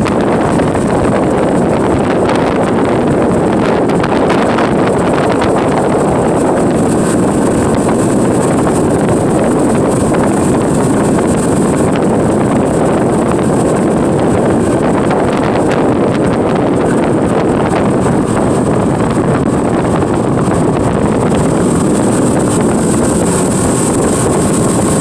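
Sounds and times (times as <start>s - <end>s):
boat motor droning: 0.0s - 25.0s
wind buffeting microphone: 0.0s - 25.0s.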